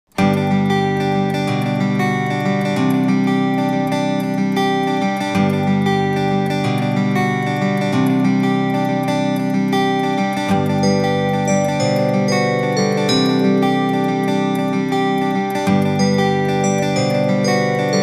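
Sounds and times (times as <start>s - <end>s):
acoustic guitar music: 0.1s - 18.0s.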